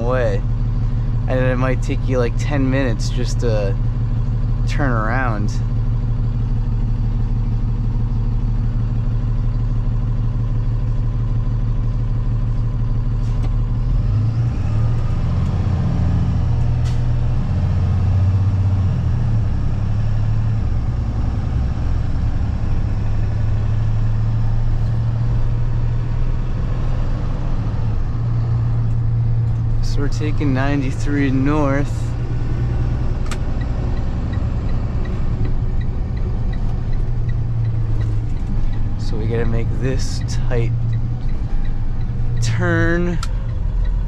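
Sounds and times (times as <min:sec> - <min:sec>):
truck engine humming: 0:00.0 - 0:44.0.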